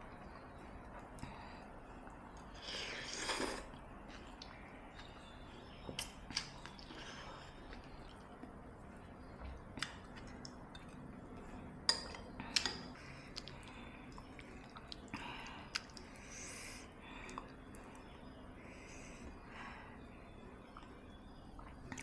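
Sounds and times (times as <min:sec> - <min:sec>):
chewing and wet eating sounds: 0:00.0 - 0:18.4, 0:20.6 - 0:22.0.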